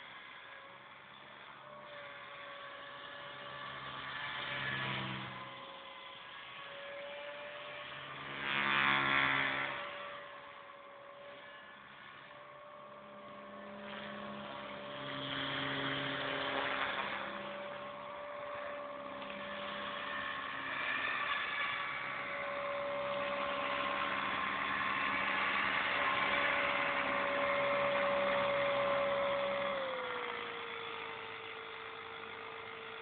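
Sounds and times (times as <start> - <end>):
rc helicopter motor whine: 0.0 - 33.0.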